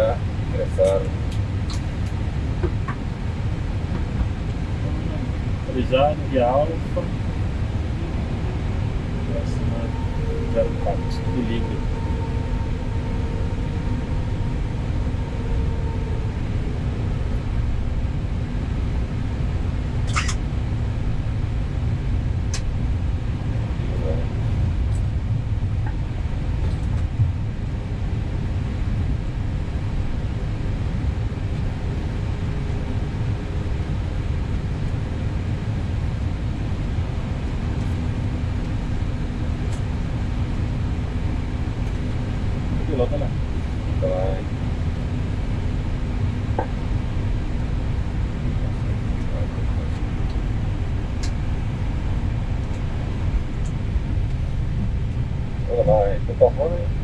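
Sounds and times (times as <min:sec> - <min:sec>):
aircraft engines idling rumble: 0:00.0 - 0:57.0
faint steady hum: 0:00.0 - 0:57.0.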